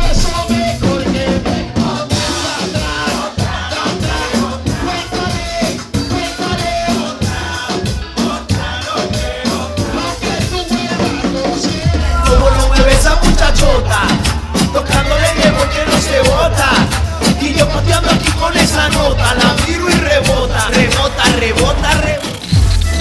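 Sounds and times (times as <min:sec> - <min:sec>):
person singing: 0:00.0 - 0:22.5
upbeat music with drum beat: 0:00.0 - 0:23.0.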